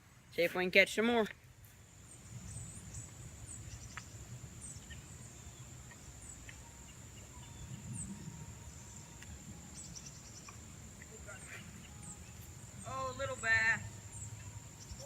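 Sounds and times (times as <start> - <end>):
steady high-pitched whine: 1.5 - 15.0.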